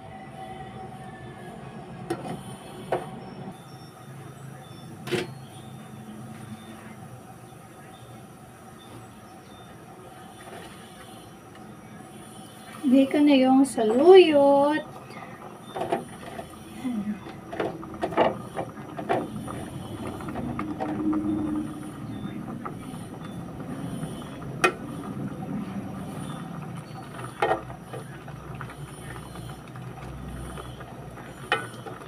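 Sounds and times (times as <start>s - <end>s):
water simmering hiss: 0.0s - 32.0s.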